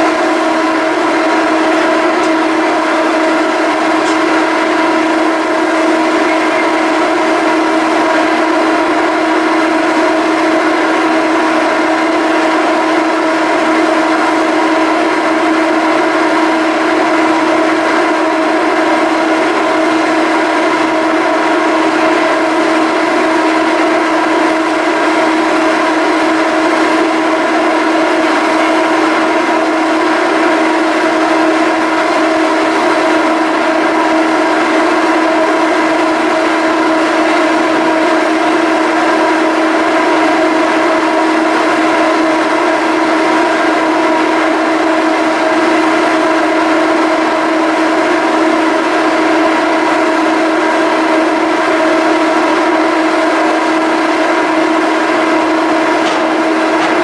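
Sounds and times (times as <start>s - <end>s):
ferry machinery humming: 0.0s - 48.5s, 50.5s - 57.0s.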